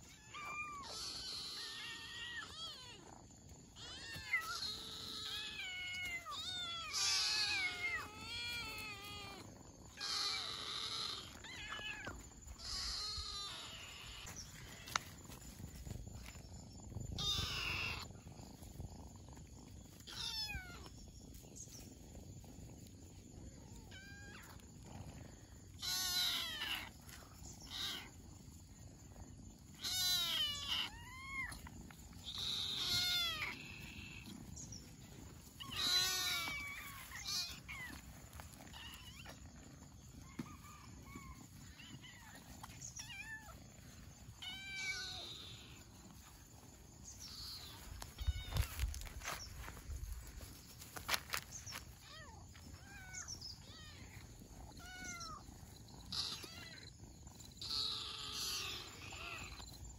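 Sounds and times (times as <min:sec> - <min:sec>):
kittens meowing: 0:00.0 - 0:15.4, 0:16.2 - 0:22.8, 0:23.5 - 0:28.4, 0:29.5 - 0:49.6, 0:51.6 - 0:59.9.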